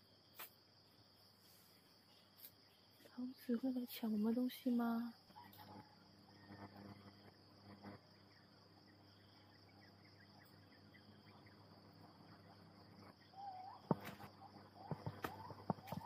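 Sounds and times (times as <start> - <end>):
faint chirps: 0.0 - 16.0
insects chorus: 0.0 - 16.0.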